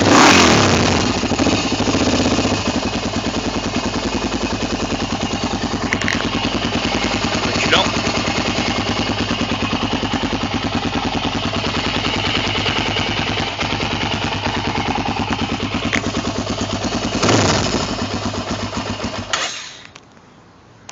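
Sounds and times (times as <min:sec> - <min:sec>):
quad engine idling: 0:00.0 - 0:20.0.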